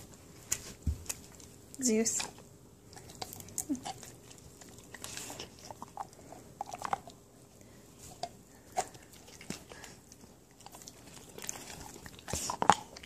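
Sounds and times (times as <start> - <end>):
dog gnawing on antler: 0.0 - 7.2, 8.1 - 13.0.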